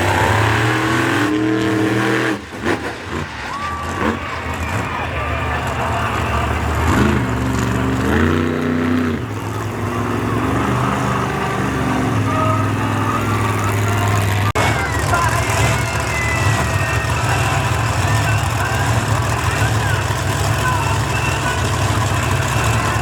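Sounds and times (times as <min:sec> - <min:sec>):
monster truck engines revving: 0:00.0 - 0:23.0.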